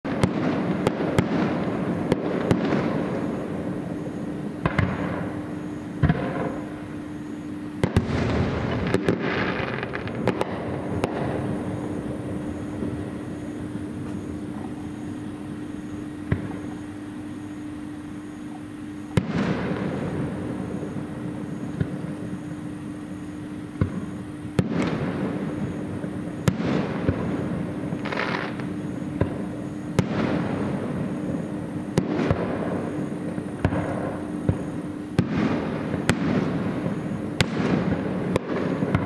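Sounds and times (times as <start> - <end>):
crackling rumble: 0.1 - 39.0.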